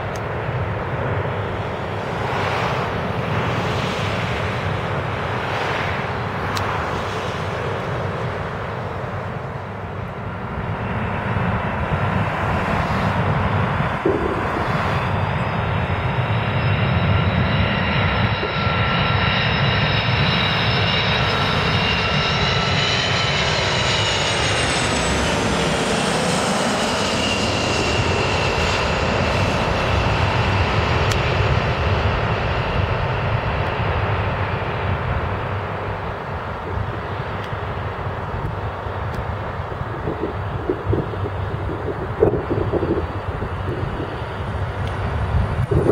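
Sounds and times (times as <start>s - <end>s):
jet engine roar: 0.0s - 45.9s
jet engine whine: 0.0s - 45.9s.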